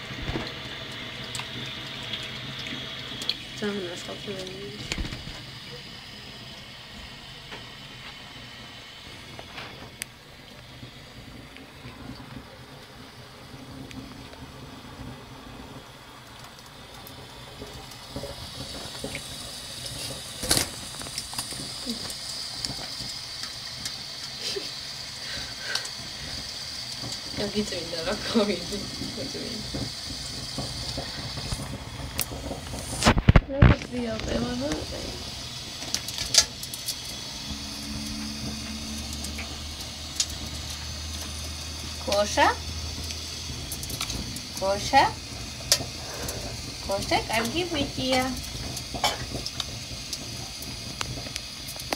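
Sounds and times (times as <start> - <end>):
tap water running into sink: 0.0 - 51.9
steady low hum: 2.2 - 51.9.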